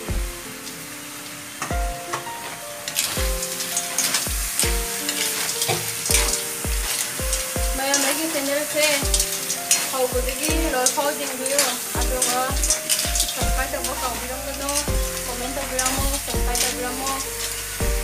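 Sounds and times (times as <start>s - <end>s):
background music with steady beat: 0.0s - 18.0s
snails sizzling in a wok: 2.9s - 18.0s.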